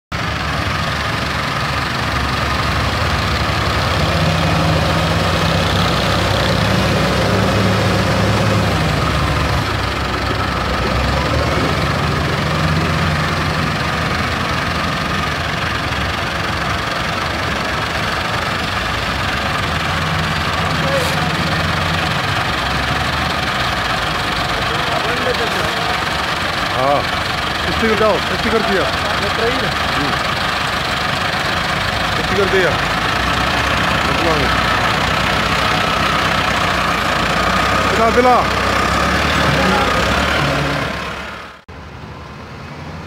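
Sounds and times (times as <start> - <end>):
tractor engine running: 0.1 - 42.2
wheel loader diesel engine: 0.1 - 43.0.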